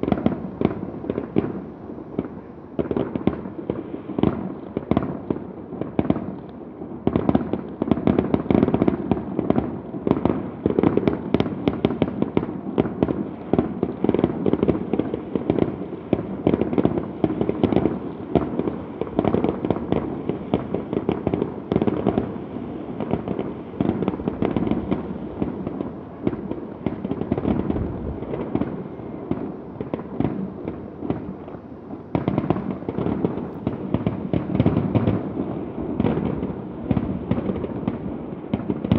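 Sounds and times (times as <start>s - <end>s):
fireworks bangs and crackles: 0.0s - 38.9s
rolling rumble of fireworks: 0.0s - 38.9s.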